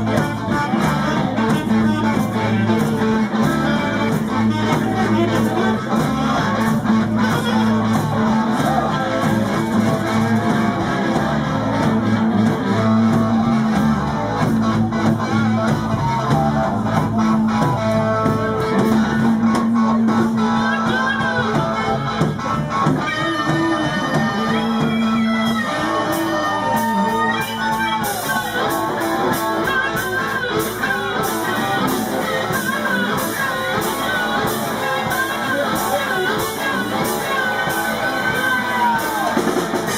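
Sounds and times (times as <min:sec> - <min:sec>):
bass and drums: 0:00.0 - 0:39.9
electric guitar lead: 0:00.0 - 0:39.9.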